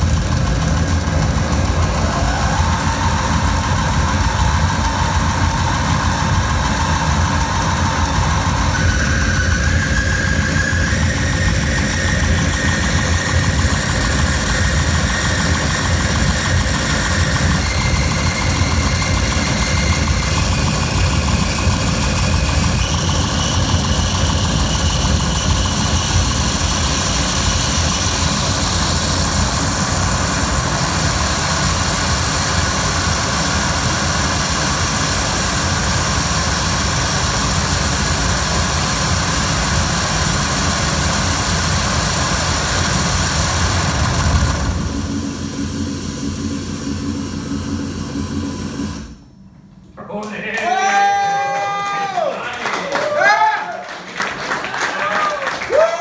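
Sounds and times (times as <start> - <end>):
heavy low rumble drone: 0.0 - 49.7.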